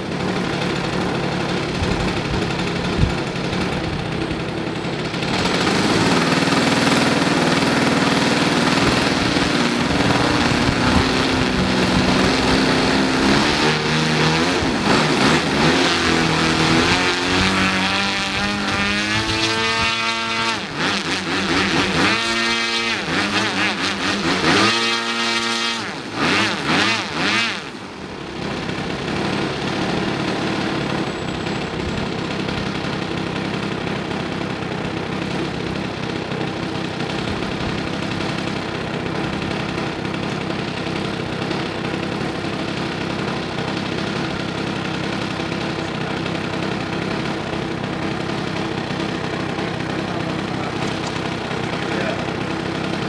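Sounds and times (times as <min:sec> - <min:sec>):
model plane engine revving: 0:00.0 - 0:53.0.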